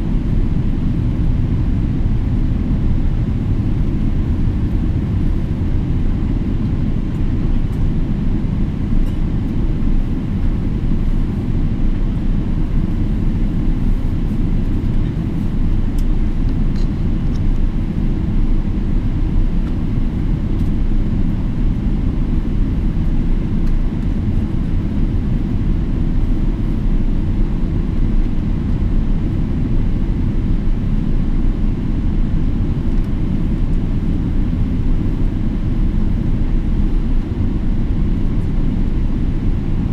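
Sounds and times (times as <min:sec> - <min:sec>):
airliner engines and airflow rumble: 0:00.0 - 0:39.9.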